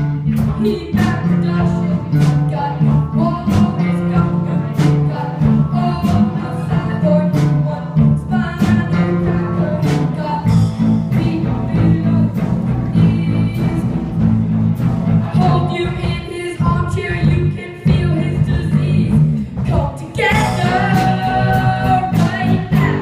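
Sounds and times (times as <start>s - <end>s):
live band playing a song: 0.0s - 23.0s
person singing: 0.2s - 14.0s, 15.3s - 23.0s.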